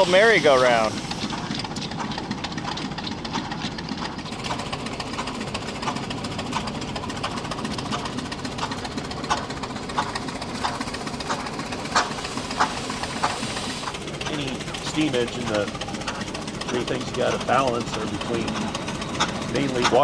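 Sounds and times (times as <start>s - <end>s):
mechanical clatter: 0.0s - 20.0s
steam engine running: 0.0s - 20.0s.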